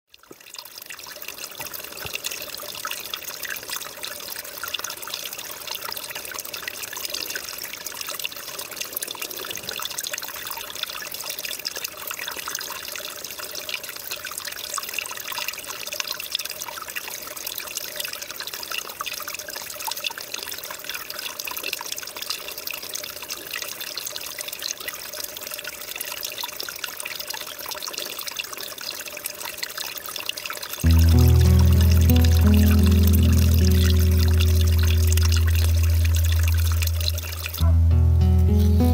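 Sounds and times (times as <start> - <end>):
stream trickling over stones: 0.1 - 37.6.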